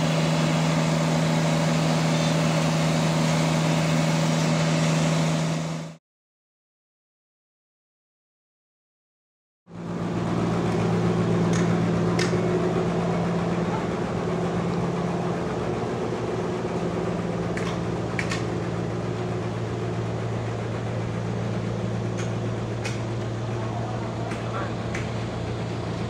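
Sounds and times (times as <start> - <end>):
sawmill machinery humming: 0.0 - 6.0, 9.7 - 26.0.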